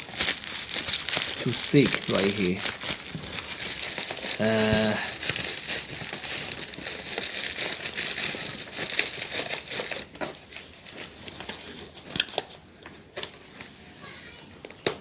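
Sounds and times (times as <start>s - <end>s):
plastic wrap crinkling: 0.0s - 13.5s.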